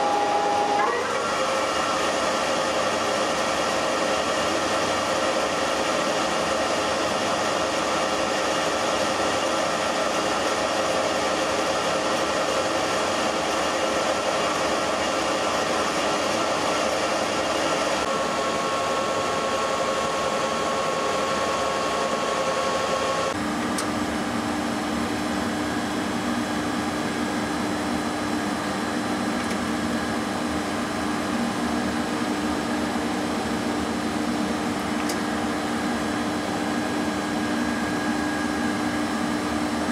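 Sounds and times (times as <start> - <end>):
lathe humming and whining: 0.0 - 39.9.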